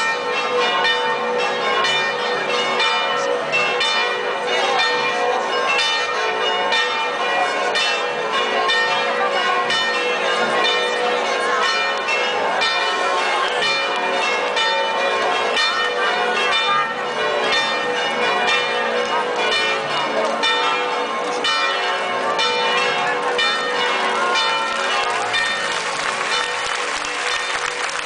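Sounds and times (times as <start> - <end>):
church bells pealing: 0.0 - 28.0.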